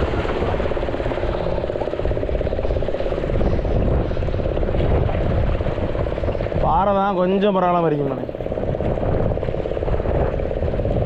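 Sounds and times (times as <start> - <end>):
loud mechanical drone: 0.0 - 11.0.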